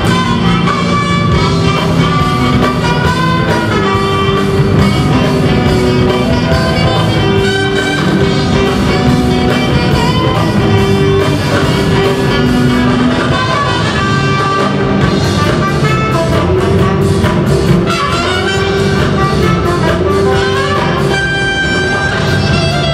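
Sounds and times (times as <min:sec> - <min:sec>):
drum kit beat: 0:00.0 - 0:22.9
electric guitar: 0:00.0 - 0:22.9
saxophones: 0:00.0 - 0:22.9
trumpet: 0:00.0 - 0:22.9.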